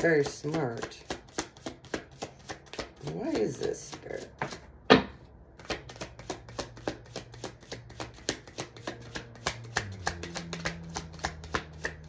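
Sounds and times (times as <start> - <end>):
cards being shuffled: 0.0 - 4.7, 5.6 - 12.0.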